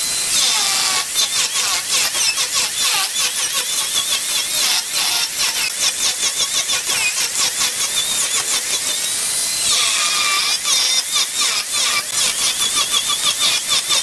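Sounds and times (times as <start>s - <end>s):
angle grinder carving wood: 0.0s - 14.0s.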